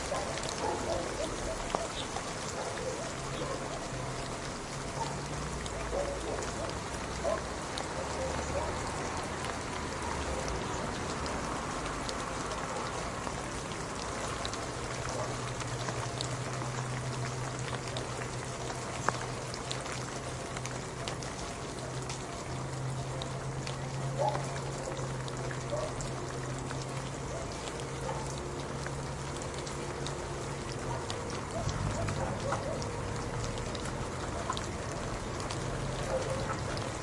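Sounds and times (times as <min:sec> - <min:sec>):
rain drops ticking: 0:00.0 - 0:37.0.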